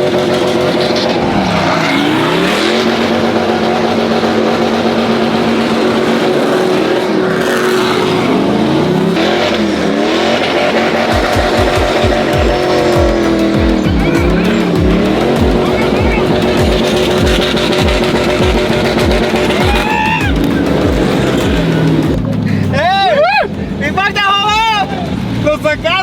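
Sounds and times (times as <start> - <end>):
engine revving high: 0.0 - 23.0
tires squealing and spinning: 0.0 - 26.0.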